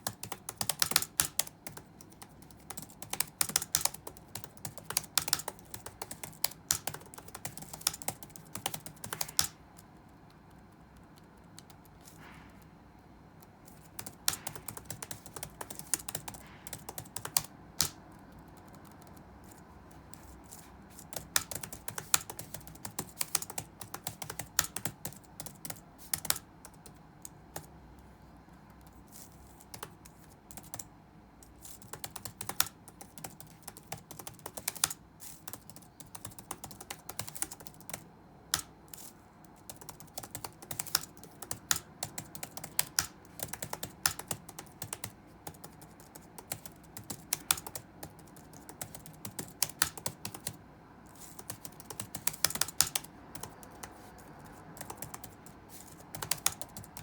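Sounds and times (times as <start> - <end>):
keyboard typing clicks: 0.0 - 12.2, 13.4 - 20.3, 20.9 - 27.7, 28.8 - 30.9, 31.7 - 50.6, 51.2 - 57.0
faint low background noise: 0.0 - 57.0.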